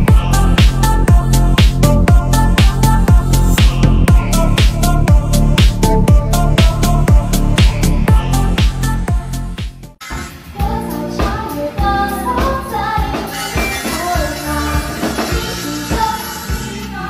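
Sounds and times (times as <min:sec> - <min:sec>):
pop music with singing: 0:00.0 - 0:17.0.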